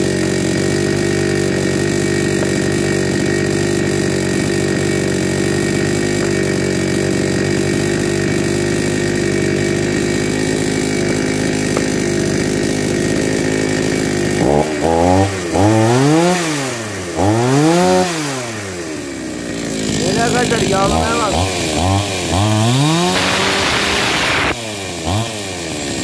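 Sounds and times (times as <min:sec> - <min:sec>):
chainsaw idling and revving: 0:00.0 - 0:26.0.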